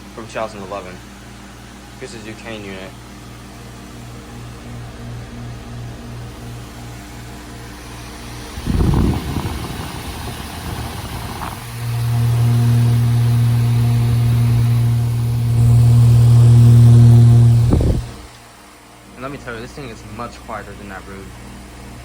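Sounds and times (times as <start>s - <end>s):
heat pump unit humming: 0.0s - 22.0s.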